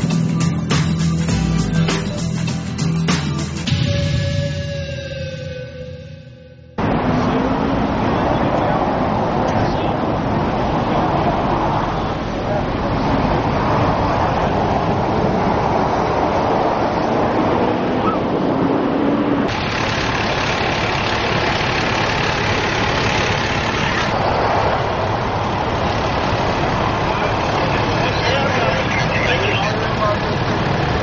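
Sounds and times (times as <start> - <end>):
highway traffic: 0.0 - 31.0.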